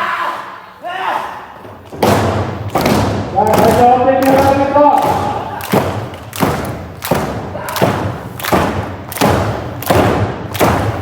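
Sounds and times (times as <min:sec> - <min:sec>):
heavy thuds on wrestling ring: 0:02.0 - 0:11.0.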